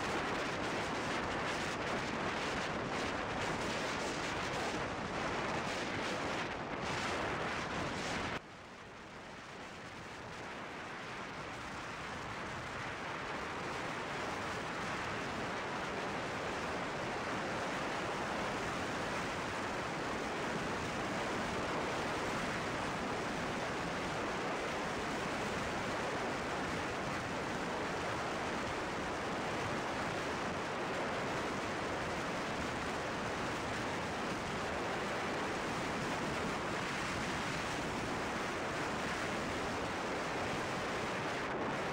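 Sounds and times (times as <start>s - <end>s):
wind rushing over microphone: 0.0s - 8.4s, 9.0s - 41.9s.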